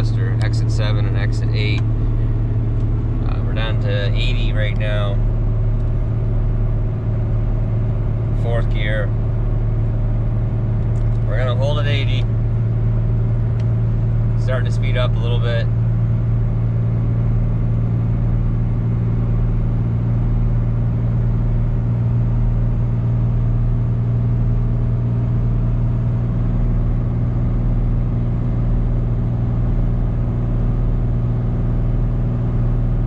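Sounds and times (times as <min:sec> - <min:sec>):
diesel engine droning under load: 0:00.0 - 0:33.0.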